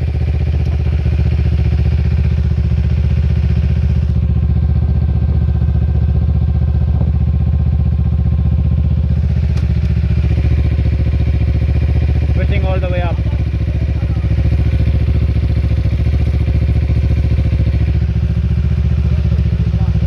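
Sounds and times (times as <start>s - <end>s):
small petrol engine idling: 0.0s - 20.0s.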